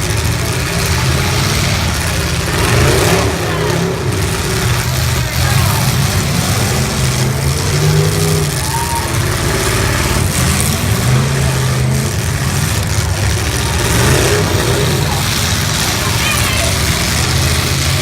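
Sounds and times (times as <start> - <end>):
car engines revving loudly: 0.0 - 18.0.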